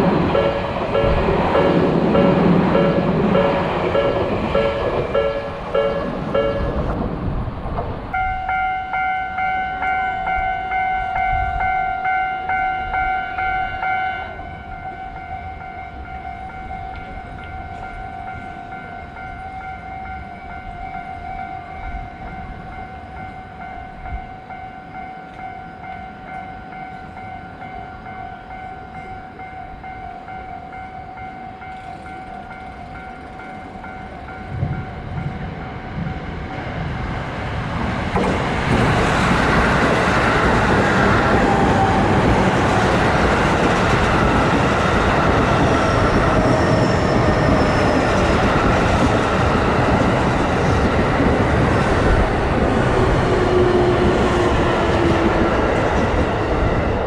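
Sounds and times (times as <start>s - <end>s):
level crossing warning bell: 0.0s - 6.9s, 8.2s - 36.2s, 38.2s - 56.4s
train wheels passing: 0.0s - 57.0s.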